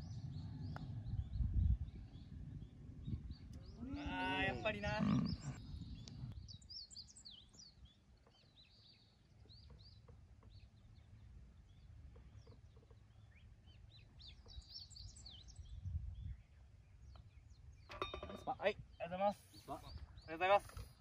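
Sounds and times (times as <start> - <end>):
outdoor background noise: 0.0 - 21.0
small birds chirping: 0.0 - 21.0.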